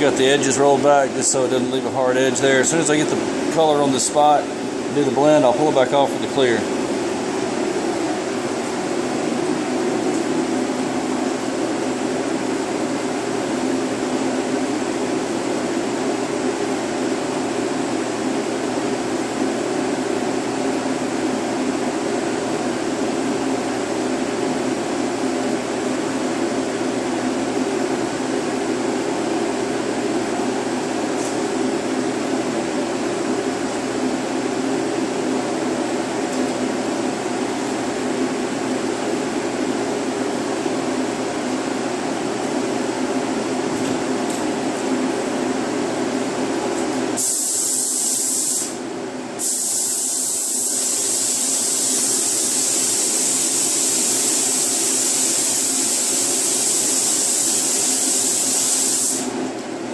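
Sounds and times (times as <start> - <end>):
ventilation fan running: 0.0 - 59.9.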